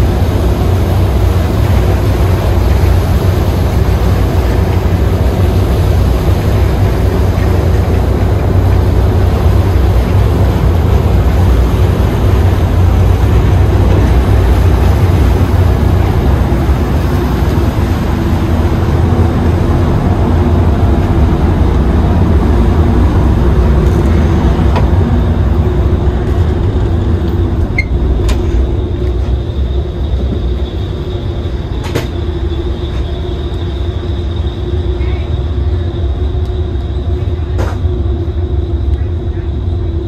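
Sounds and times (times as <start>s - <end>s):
ferry engine rumble: 0.0s - 40.0s.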